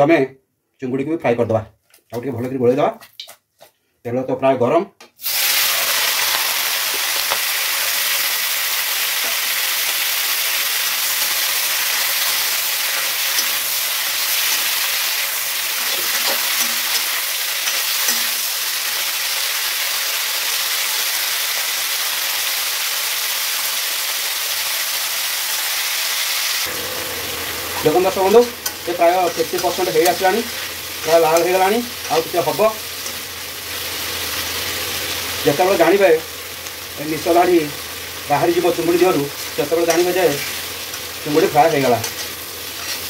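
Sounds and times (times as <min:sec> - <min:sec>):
oil crackles: 0:05.2 - 0:25.6, 0:27.5 - 0:43.0
prawns sizzling in oil: 0:05.2 - 0:43.0.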